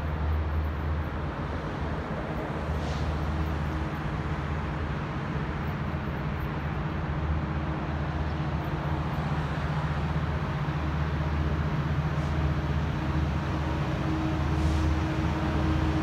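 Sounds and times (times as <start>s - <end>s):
diesel train drone: 0.0s - 16.0s
traffic rush: 0.0s - 16.0s.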